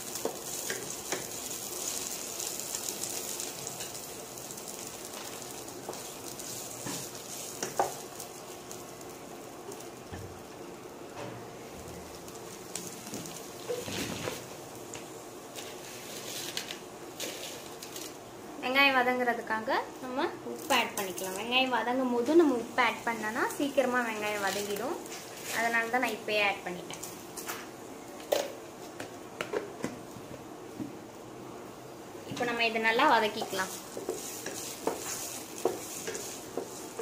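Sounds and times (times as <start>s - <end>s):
onions sizzling in hot oil: 0.0s - 27.8s, 31.8s - 37.0s.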